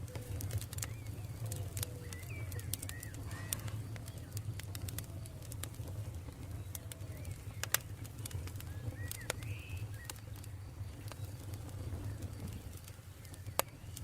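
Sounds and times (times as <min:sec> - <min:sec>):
campfire crackling and popping: 0:00.0 - 0:14.0
birds calling: 0:00.1 - 0:14.0.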